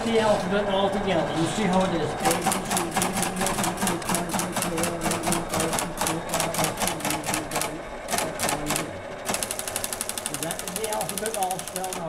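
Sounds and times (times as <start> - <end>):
keyboard perforator clattering: 1.6 - 12.0.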